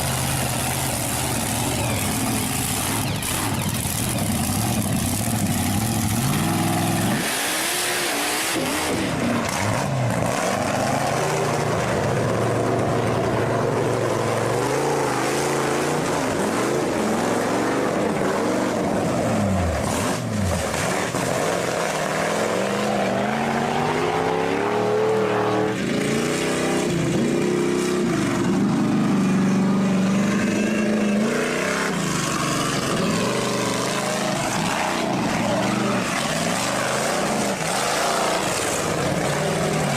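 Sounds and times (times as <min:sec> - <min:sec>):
big engine revving: 0:00.0 - 0:39.9.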